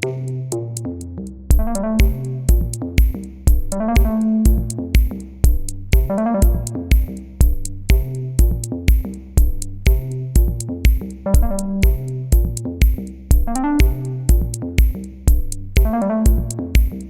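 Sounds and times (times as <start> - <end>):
drum machine beat: 0.0 - 0.8, 1.5 - 17.0
synthesizer notes and chords: 0.0 - 17.0.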